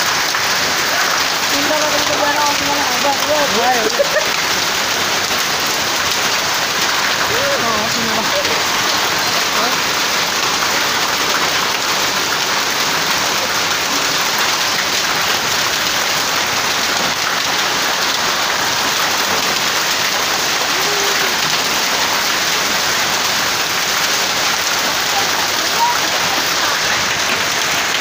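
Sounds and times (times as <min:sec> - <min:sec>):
rain and hail on metal roof: 0:00.0 - 0:28.0.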